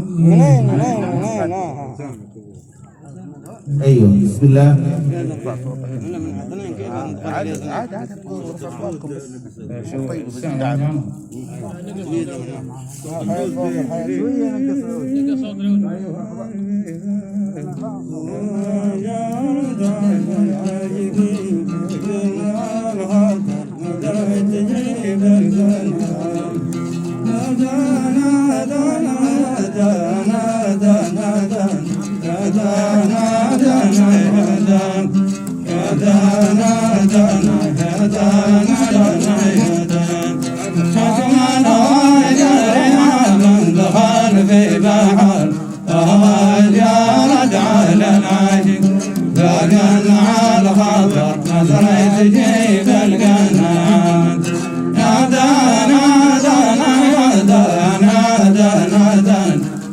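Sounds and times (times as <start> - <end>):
men singing in a group: 0.0 - 2.2, 3.5 - 9.1, 9.8 - 59.9
plucked string instrument: 0.0 - 9.1, 9.9 - 59.9.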